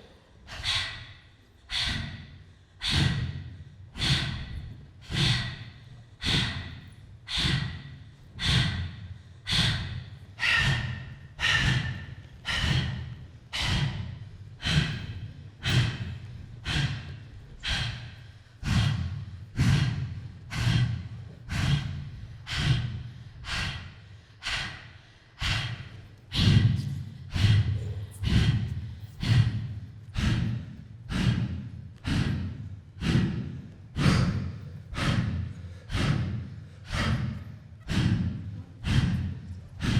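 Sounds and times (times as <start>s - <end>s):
sharp rhythmic breaths: 0.0s - 39.9s.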